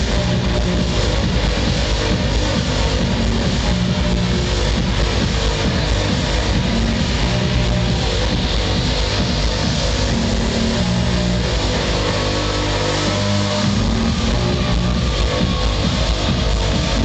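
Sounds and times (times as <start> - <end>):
held bass line: 0.0 - 17.0
loud electronic dance music: 0.0 - 17.0.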